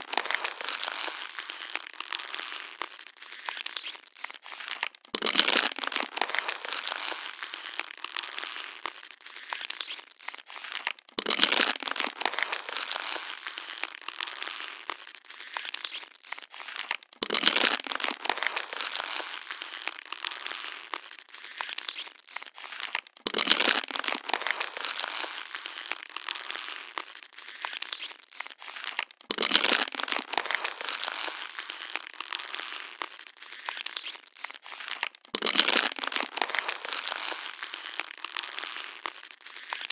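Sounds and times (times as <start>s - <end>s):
plastic bottle crinkling: 0.0s - 39.9s.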